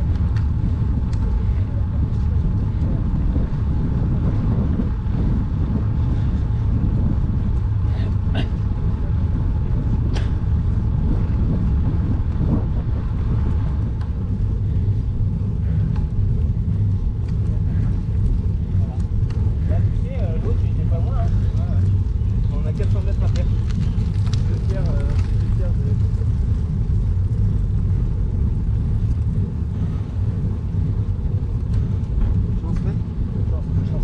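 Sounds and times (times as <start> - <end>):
low wind on microphone: 0.0 - 34.0
road rumble: 0.0 - 34.0.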